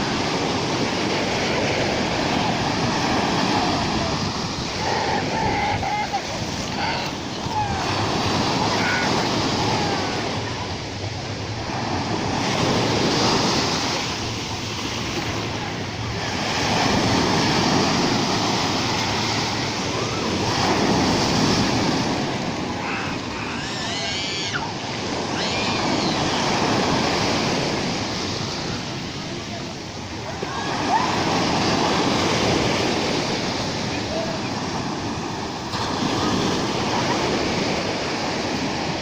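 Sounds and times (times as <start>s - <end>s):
waves breaking and washing in: 0.0s - 39.0s.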